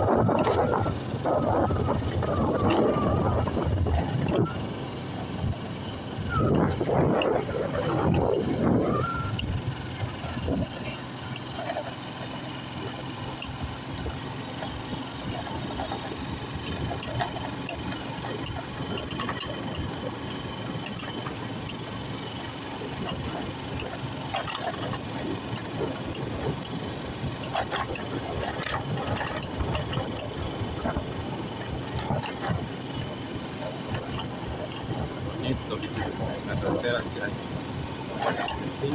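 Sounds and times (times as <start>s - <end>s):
rattles and clicks from the ride: 0.0s - 38.9s
vehicle engine running: 0.0s - 38.9s.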